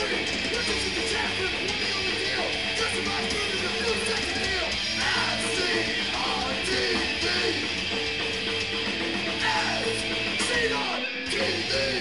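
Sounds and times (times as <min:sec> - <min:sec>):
distorted electric guitar slides: 0:00.0 - 0:12.0
loud thrash band playing: 0:00.0 - 0:12.0.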